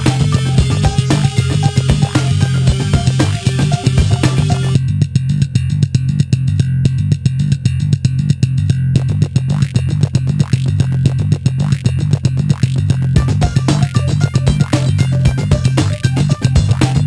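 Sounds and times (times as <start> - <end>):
music with bass line and beat: 0.0 - 17.0.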